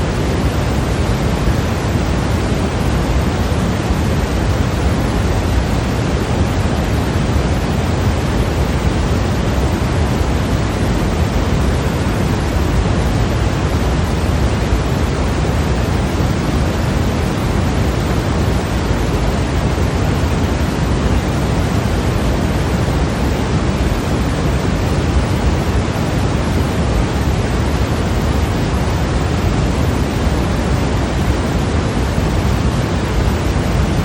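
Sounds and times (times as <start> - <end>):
steady white noise hiss: 0.0 - 34.0.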